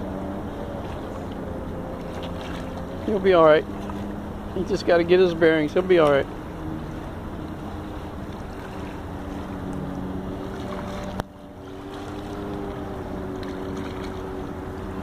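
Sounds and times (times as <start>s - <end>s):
motor droning: 0.0s - 15.0s.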